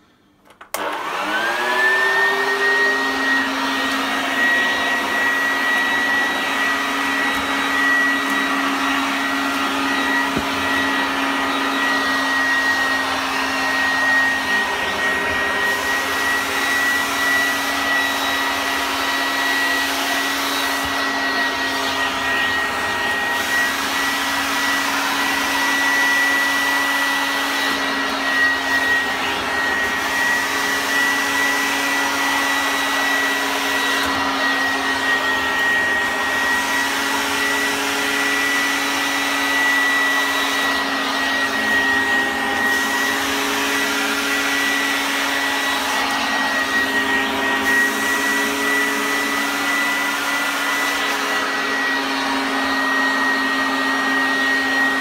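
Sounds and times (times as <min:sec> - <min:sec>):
vacuum cleaner motor whine: 0:00.0 - 0:55.0.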